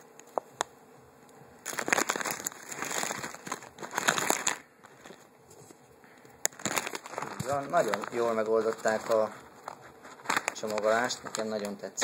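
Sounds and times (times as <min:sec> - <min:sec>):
plastic packaging crinkling: 0:01.6 - 0:05.8, 0:06.4 - 0:12.0.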